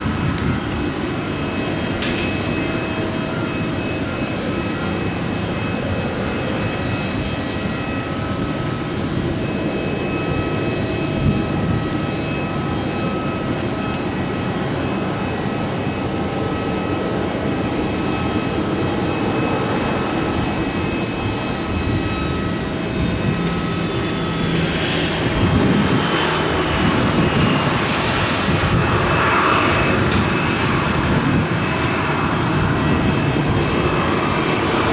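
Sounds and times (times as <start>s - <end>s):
jet engines running: 0.0s - 34.9s.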